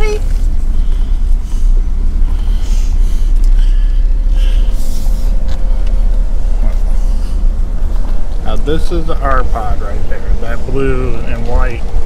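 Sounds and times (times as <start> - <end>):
truck rumbling over rough road: 0.0 - 12.0.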